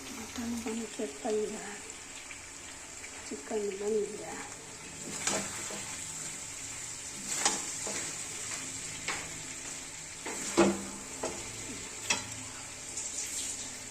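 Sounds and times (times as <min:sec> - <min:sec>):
chicken sizzling in a pan: 0:00.0 - 0:13.9.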